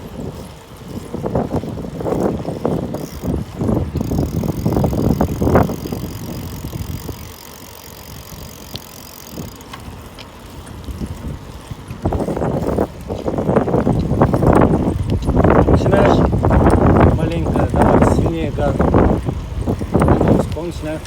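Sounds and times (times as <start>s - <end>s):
bicycle riding noise: 0.0s - 21.0s
faint bicycle clicks: 0.0s - 21.0s.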